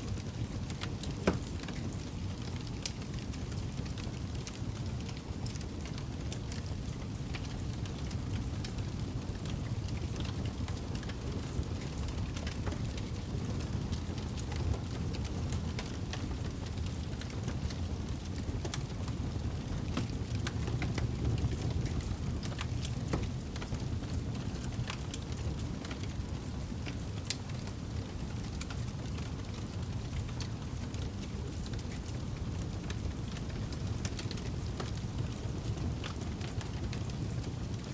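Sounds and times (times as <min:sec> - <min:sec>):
wood crackling and popping: 0:00.0 - 0:37.9
campfire flames rushing: 0:00.1 - 0:37.9.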